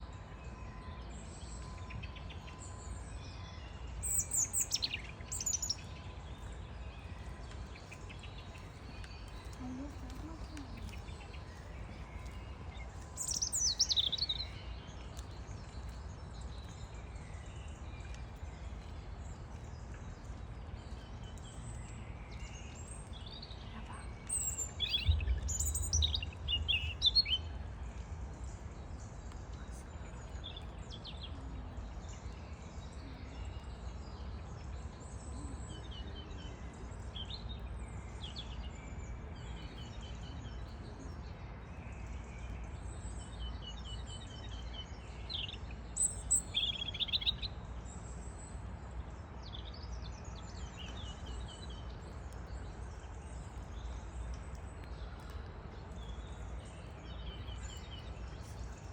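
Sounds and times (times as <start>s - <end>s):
robin singing: 1.2s - 58.9s.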